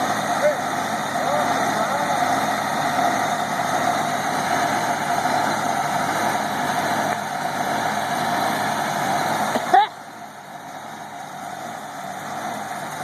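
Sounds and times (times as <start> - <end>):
drill engine running: 0.0 - 13.0.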